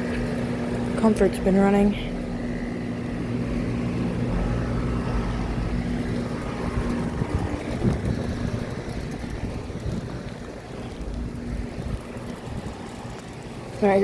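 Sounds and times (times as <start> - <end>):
compressor hum: 0.0 - 14.0
condenser fans rushing: 0.0 - 14.0.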